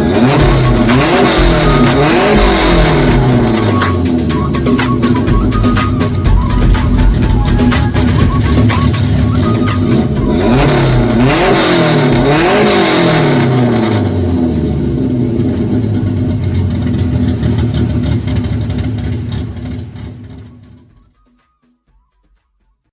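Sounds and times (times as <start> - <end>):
car engine revving: 0.0 - 21.1.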